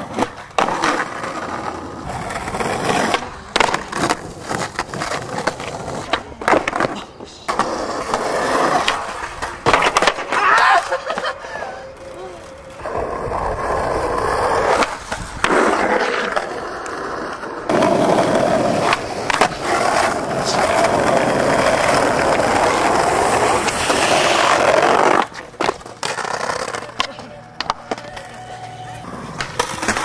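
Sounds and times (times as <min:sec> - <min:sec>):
skateboard clacking on ground: 0:00.0 - 0:30.0
skateboard wheels rolling: 0:00.0 - 0:30.0.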